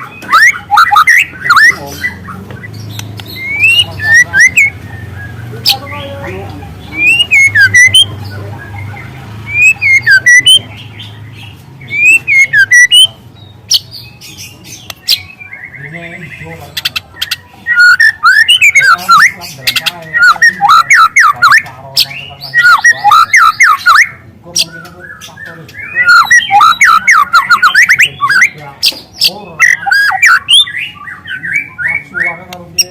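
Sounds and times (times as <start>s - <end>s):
bird singing whistled notes: 0.0s - 6.2s, 6.9s - 32.9s.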